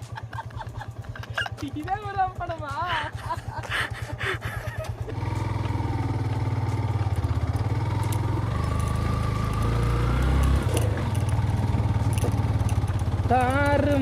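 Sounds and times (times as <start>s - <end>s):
motorcycle engine under load: 0.0s - 14.0s.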